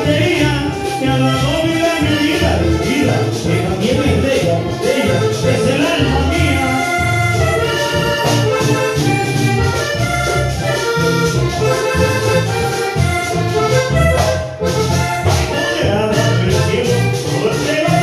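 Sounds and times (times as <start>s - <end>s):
latin dance music: 0.0s - 18.0s.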